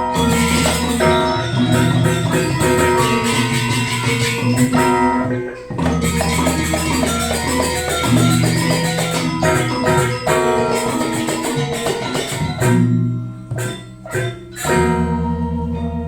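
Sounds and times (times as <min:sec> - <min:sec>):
metallophone strokes: 0:00.0 - 0:15.4.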